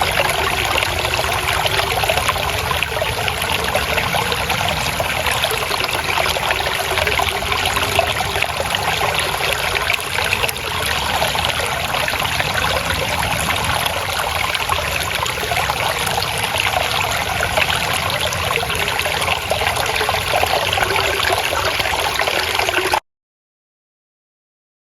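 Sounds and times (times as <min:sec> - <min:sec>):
stream water trickling: 0:00.0 - 0:23.0.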